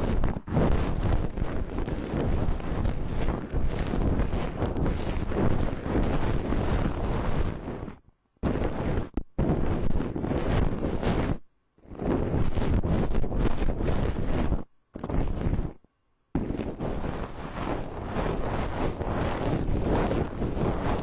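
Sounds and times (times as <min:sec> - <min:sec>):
brush scratching on microphone: 0:00.0 - 0:15.8, 0:16.4 - 0:21.0.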